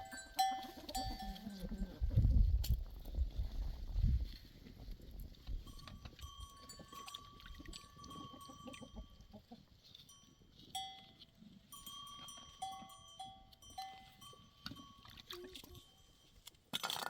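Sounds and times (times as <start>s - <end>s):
faint livestock bells ringing: 0.0s - 2.2s, 4.3s - 16.5s.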